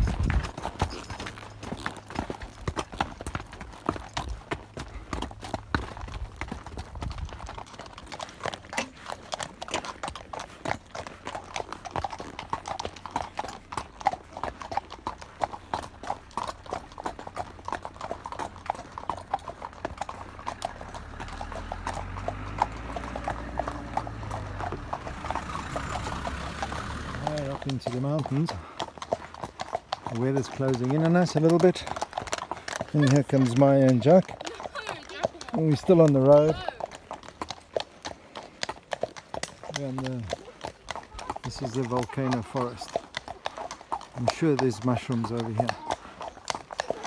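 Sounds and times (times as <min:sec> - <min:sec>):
horse hooves clip-clopping on road: 0:00.0 - 0:47.0.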